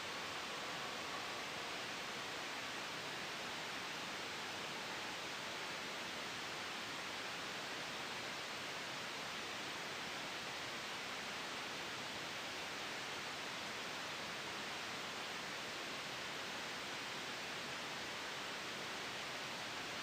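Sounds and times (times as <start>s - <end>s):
steady white noise: 0.0s - 20.0s.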